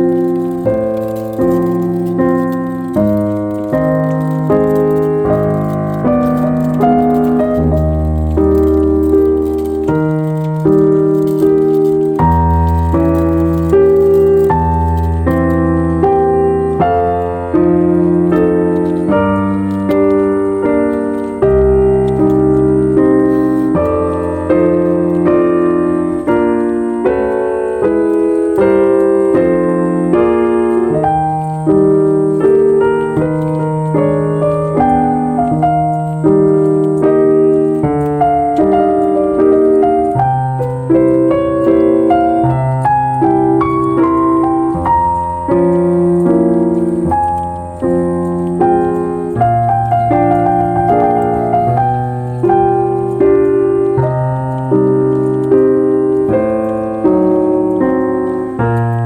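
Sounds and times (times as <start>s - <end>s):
calm piano piece: 0.0s - 59.0s.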